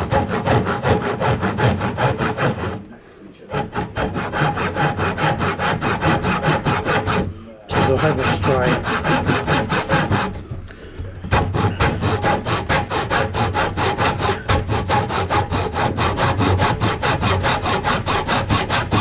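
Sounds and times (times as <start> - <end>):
handsaw cutting wood: 0.0 - 10.6, 11.2 - 19.0.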